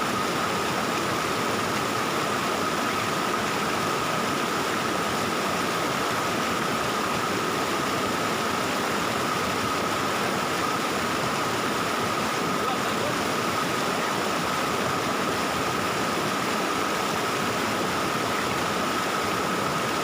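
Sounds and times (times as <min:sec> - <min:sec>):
stream water babbling: 0:00.0 - 0:20.0.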